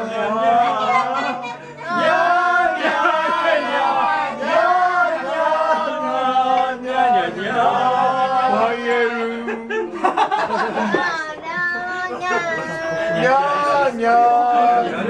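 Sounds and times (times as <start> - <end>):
group singing: 0.0 - 11.1, 12.0 - 15.0
acoustic guitar: 0.0 - 15.0.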